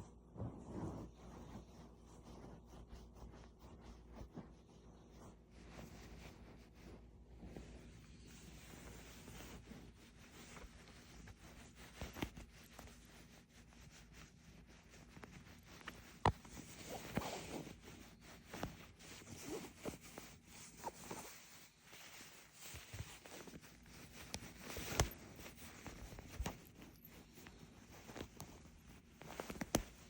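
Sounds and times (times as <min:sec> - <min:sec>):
bed covers rustling and scraping: 0:00.0 - 0:30.0.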